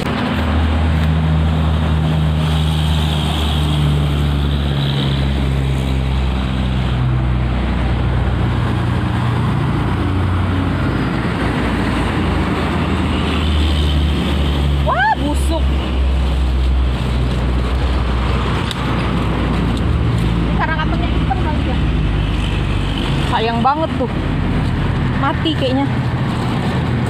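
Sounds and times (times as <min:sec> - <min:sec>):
engine humming steadily: 0:00.0 - 0:27.0.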